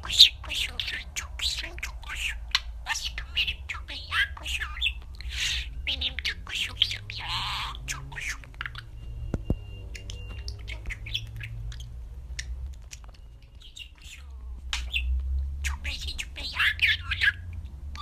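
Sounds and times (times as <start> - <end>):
budgerigar chirping: 0.0 - 18.0.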